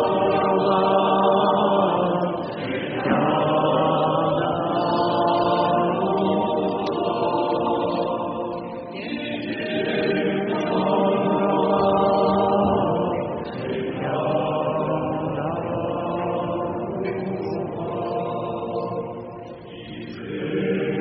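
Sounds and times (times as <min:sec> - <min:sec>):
voices singing chant: 0:00.0 - 0:21.0.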